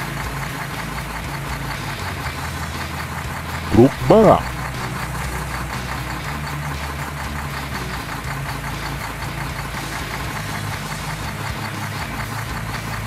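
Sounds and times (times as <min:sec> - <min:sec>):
diesel truck engine knocking: 0:00.0 - 0:13.0.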